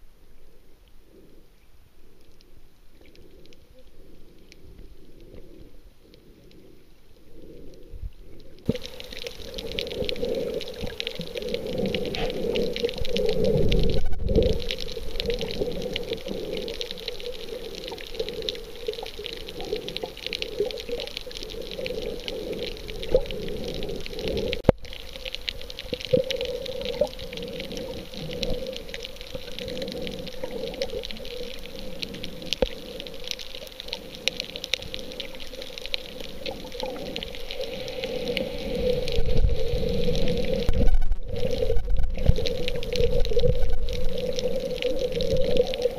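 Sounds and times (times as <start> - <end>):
underwater crackling and popping: 0.0 - 45.9.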